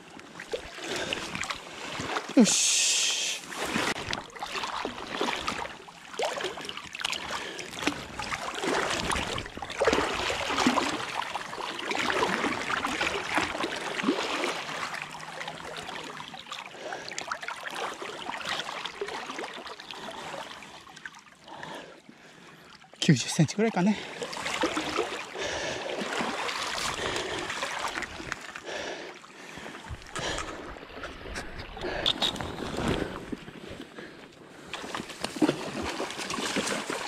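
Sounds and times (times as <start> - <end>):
river water splashing: 0.0 - 37.0.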